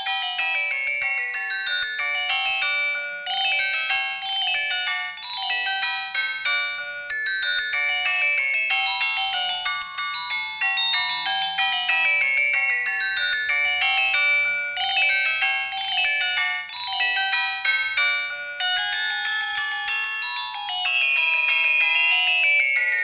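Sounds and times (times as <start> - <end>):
phone ringtone melody: 0.0 - 23.0.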